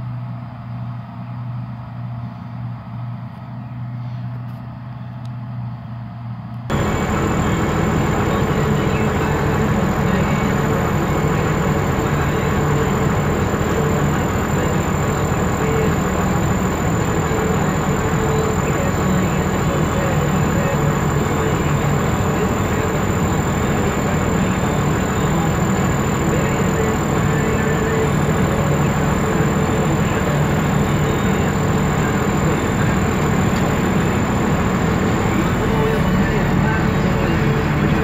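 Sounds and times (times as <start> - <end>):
combine harvester engine drone: 0.0 - 38.0
thin high whine: 6.7 - 38.0.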